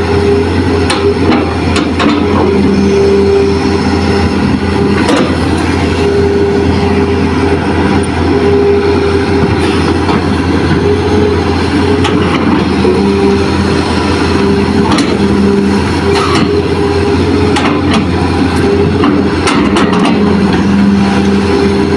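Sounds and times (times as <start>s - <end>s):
diesel machinery running: 0.0s - 21.9s.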